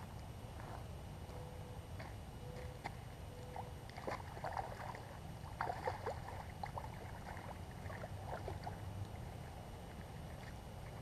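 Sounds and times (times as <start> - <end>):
low steady rumble: 0.0 - 11.0
water splashing and sloshing: 2.0 - 11.0.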